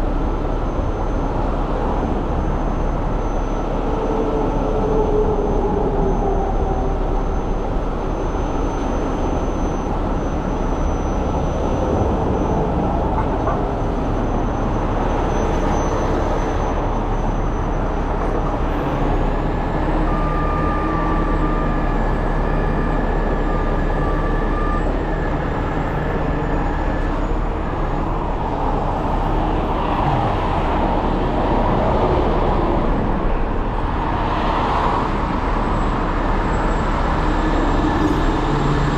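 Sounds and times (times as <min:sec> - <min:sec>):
tow truck engine drone: 0:00.0 - 0:38.9.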